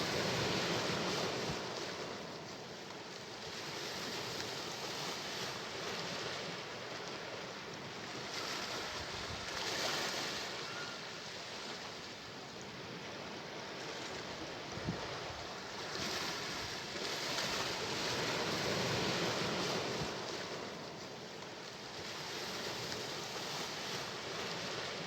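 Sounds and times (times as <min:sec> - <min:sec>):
sea waves breaking on shore: 0:00.0 - 0:25.0.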